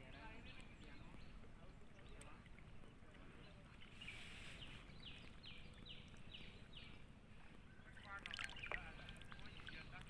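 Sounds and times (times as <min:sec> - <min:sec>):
faint outdoor rumble: 0:00.0 - 0:10.0.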